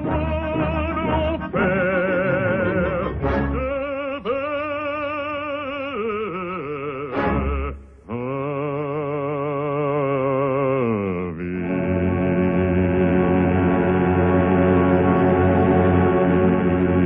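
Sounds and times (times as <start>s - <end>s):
operatic singing: 0.0s - 17.0s.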